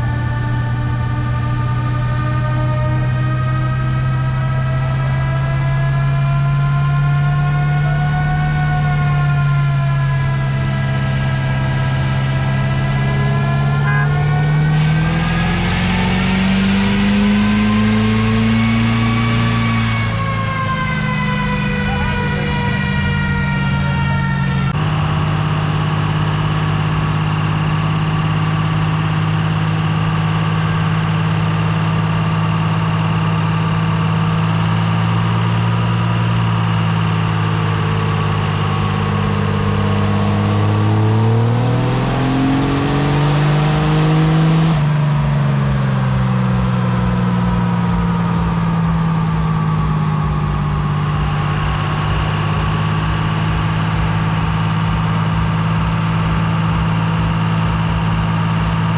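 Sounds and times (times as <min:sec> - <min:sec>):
truck engine idling and revving: 0:00.0 - 0:58.9.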